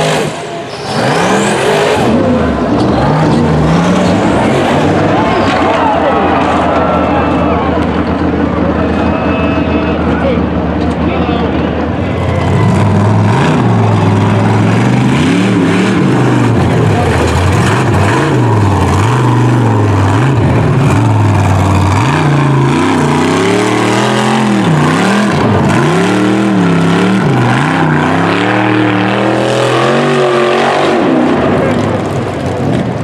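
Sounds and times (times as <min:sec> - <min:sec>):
buggy engine at high revs: 0:00.0 - 0:10.8, 0:12.1 - 0:33.0.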